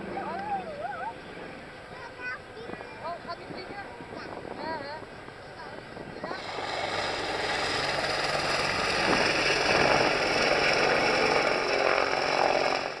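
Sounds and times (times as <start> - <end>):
helicopter flying low past: 0.0 - 13.0.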